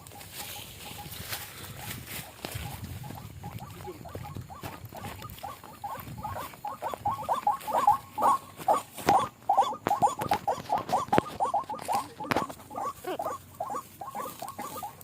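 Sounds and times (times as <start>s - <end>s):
waterhen croaking calls: 0.0s - 15.0s.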